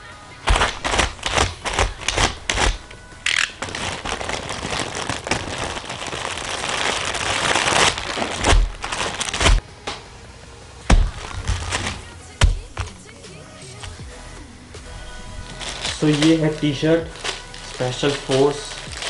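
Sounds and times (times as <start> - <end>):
plastic bag crinkling: 0.0 - 9.6, 10.9 - 13.2, 15.0 - 19.0.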